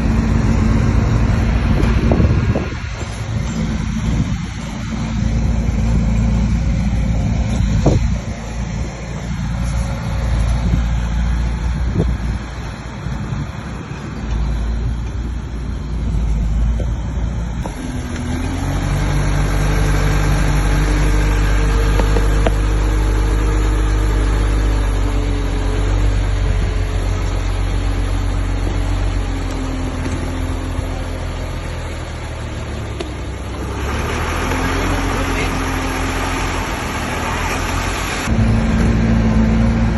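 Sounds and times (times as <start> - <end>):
bulldozer diesel engine rumble: 0.0 - 39.9.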